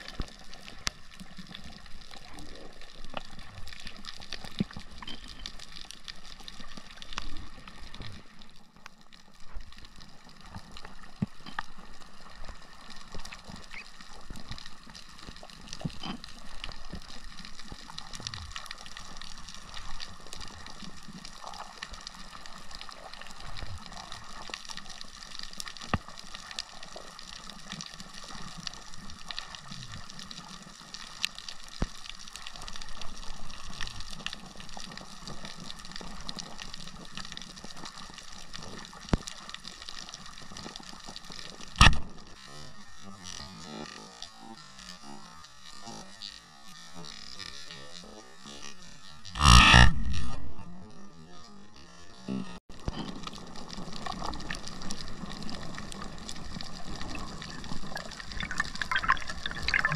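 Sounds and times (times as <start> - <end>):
sharp clicks underwater: 0.0 - 42.6, 52.8 - 59.9.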